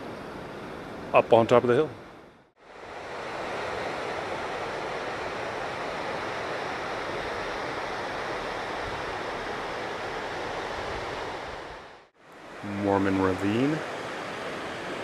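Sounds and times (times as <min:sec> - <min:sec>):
water rushing over weir: 0:02.6 - 0:15.0.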